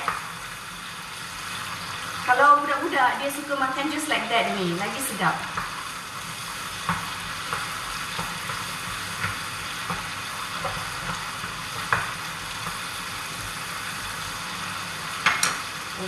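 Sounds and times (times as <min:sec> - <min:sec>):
prawns sizzling in a frying pan: 0:00.0 - 0:16.0.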